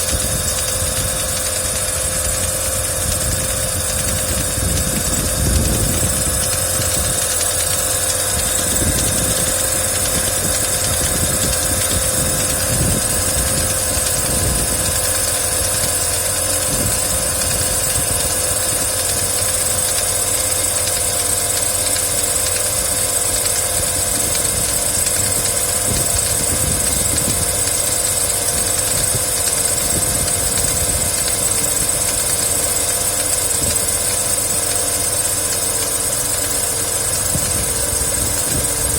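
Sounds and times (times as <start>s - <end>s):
engine idling: 0.0s - 38.9s
engine knocking: 0.0s - 38.9s.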